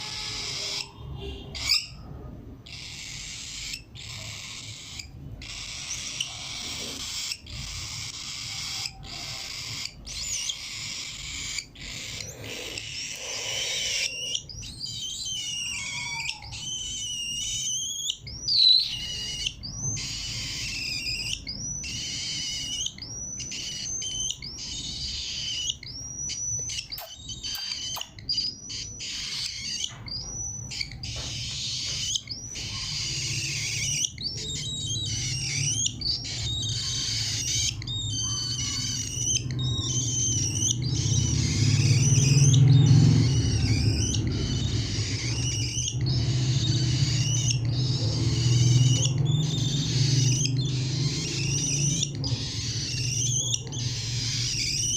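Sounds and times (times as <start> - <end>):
cockatiel chirping and squawking: 0.0 - 54.9.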